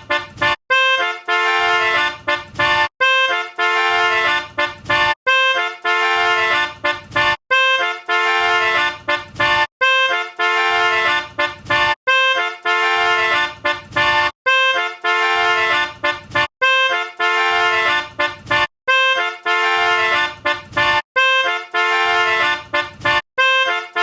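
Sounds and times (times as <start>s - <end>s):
instrument playing repeated tune: 0.0s - 24.0s.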